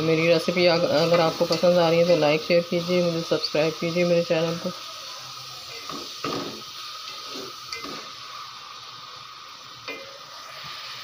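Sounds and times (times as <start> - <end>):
onions sizzling in a pot: 0.0 - 11.0.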